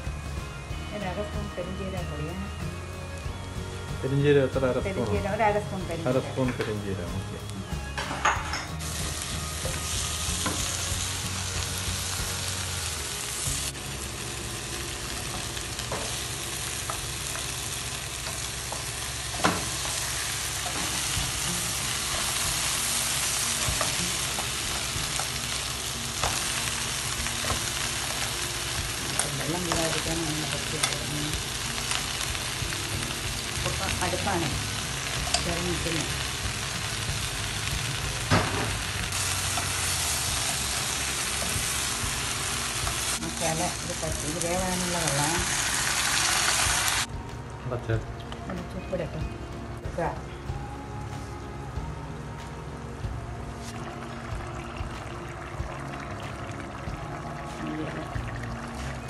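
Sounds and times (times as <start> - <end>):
onions and tomatoes sizzling: 0.0 - 59.0.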